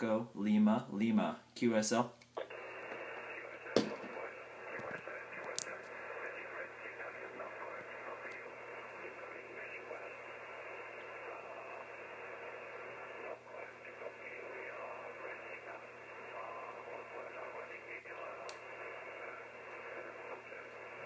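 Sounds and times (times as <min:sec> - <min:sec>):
radio static hiss: 0:00.0 - 0:21.0
garbled radio voice: 0:02.4 - 0:21.0.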